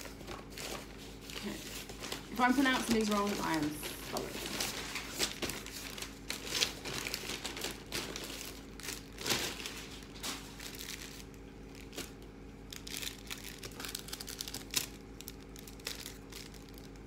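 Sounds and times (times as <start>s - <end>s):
paper and plastic rustling: 0.0s - 17.0s.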